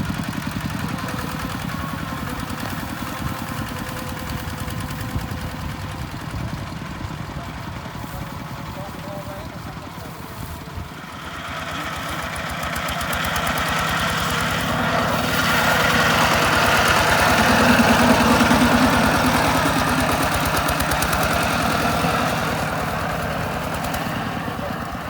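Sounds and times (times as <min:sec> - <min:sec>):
tractor engine knocking: 0:00.0 - 0:25.0.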